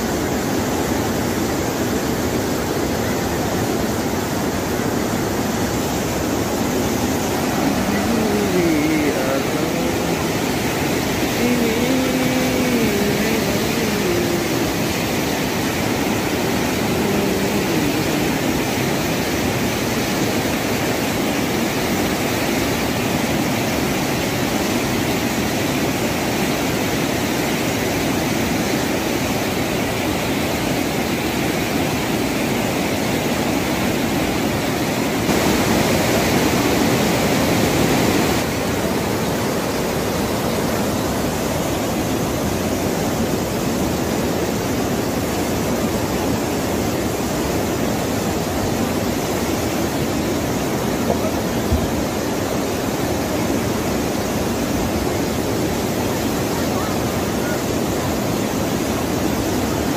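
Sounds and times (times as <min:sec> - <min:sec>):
river rushing in flood: 0:00.0 - 0:59.9.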